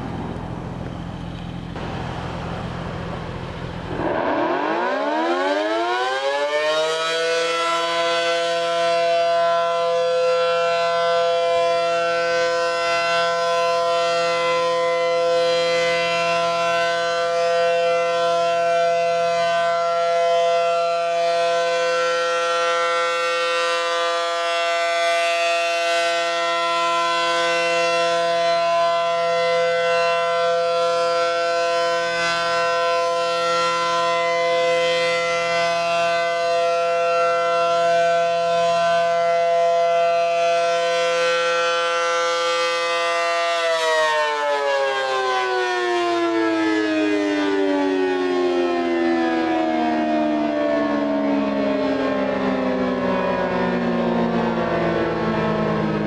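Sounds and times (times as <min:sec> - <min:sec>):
rotating siren chord: 0:00.0 - 0:56.0.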